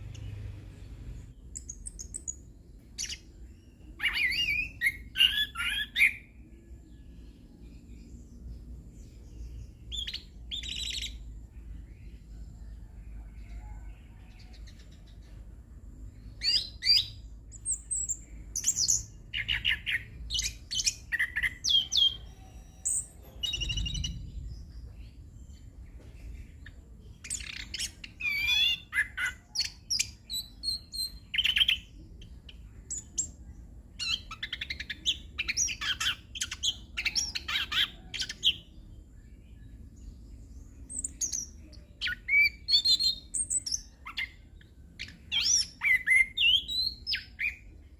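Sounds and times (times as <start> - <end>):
faint low hum: 0.0 - 47.9.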